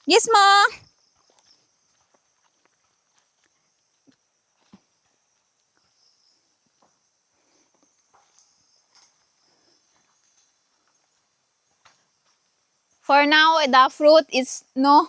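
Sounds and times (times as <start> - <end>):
faint insect chirring: 0.0 - 15.0.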